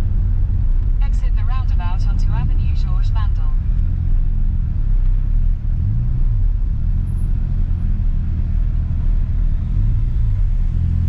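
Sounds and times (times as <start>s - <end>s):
rotary engine running at low revs: 0.0s - 11.0s.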